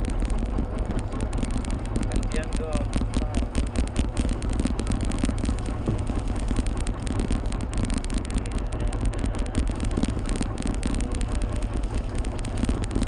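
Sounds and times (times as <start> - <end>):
boat engine running: 0.0 - 13.0
fast irregular clicks: 0.0 - 13.0.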